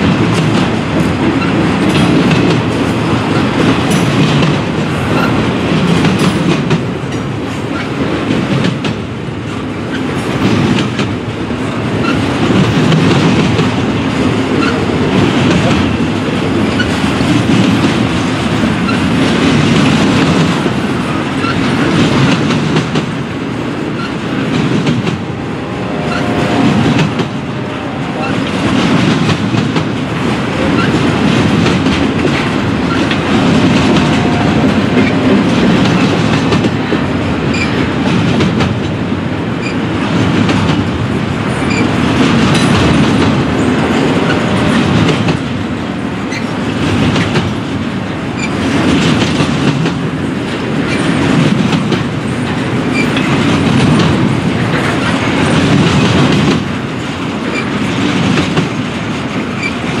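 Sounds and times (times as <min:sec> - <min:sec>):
train wheels rumbling on rail: 0:00.0 - 1:00.0
wheels clacking over rail joints: 0:00.0 - 1:00.0.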